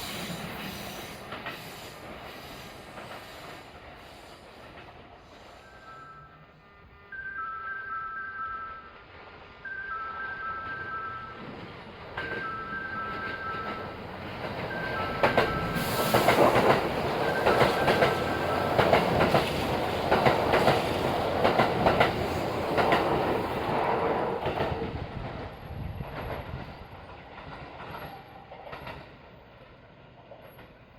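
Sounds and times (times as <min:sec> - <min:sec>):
train wheels clicking over rail joints: 0:00.0 - 0:05.8, 0:10.6 - 0:30.9.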